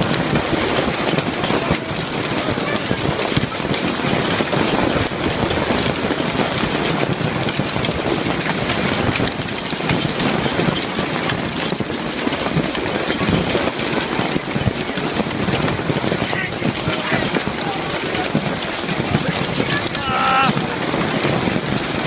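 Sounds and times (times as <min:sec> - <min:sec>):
hail and rain pelting: 0:00.0 - 0:22.0.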